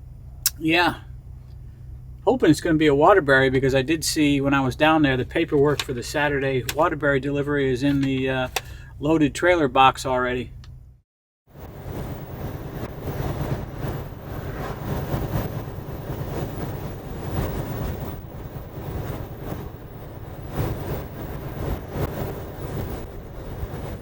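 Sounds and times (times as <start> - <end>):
truck engine and road noise: 0.0 - 11.0, 11.6 - 24.0.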